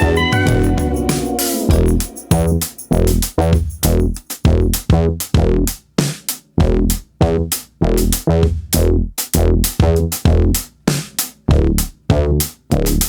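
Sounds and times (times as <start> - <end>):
deep bass notes: 0.0 - 5.8, 6.6 - 10.6, 11.5 - 13.0
electronic drum beat: 0.0 - 13.0.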